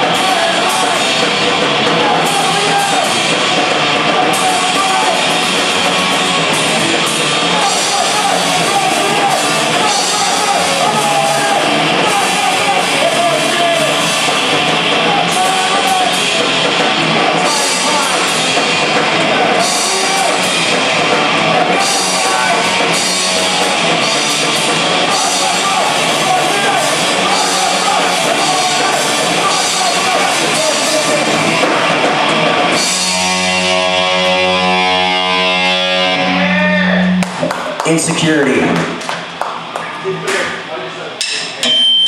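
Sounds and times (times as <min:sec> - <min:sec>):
live rock band playing: 0:00.0 - 0:39.8.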